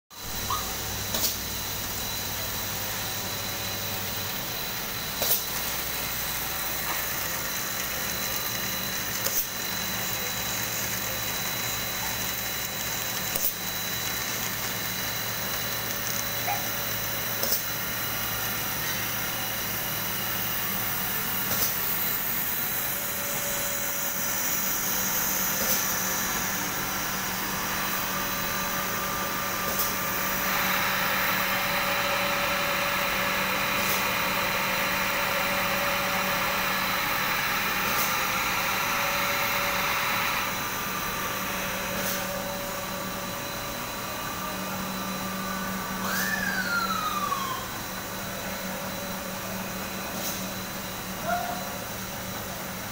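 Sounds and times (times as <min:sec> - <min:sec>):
machinery hum with high whine: 0:00.1 - 0:52.9.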